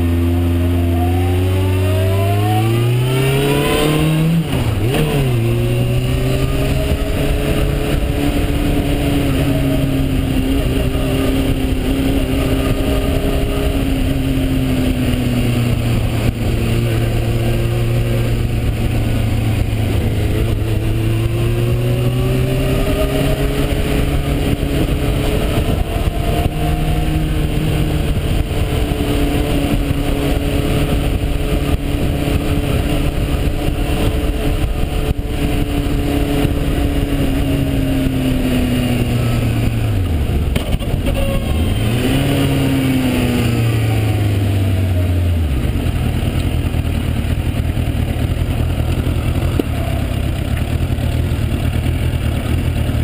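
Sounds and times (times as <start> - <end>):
gear change: 0.0 - 53.0
motorcycle engine revving: 0.0 - 53.0
wind rush over microphone: 1.1 - 46.0.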